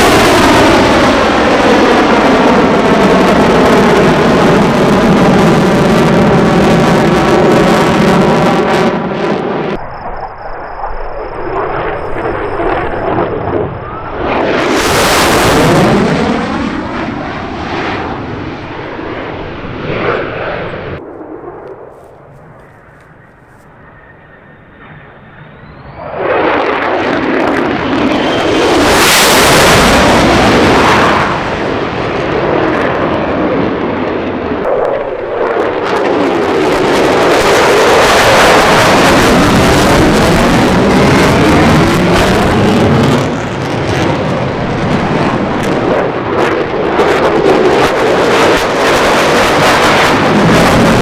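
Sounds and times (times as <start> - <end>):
fighter jet engines roaring: 0.0 - 51.0.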